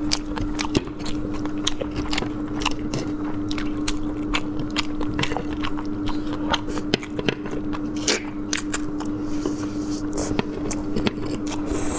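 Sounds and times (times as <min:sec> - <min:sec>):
person chewing with mouth clicks: 0:00.0 - 0:11.9
steady low hum: 0:00.0 - 0:11.9.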